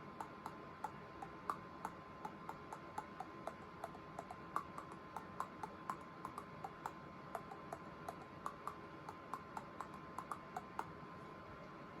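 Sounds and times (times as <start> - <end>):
teeth clicking a melody: 0.0 - 11.0.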